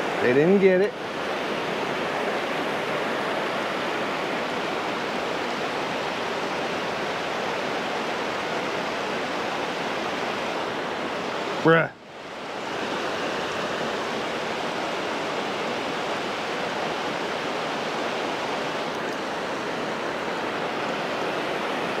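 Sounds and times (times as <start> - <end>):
water rushing over dam spillway: 0.0 - 22.0.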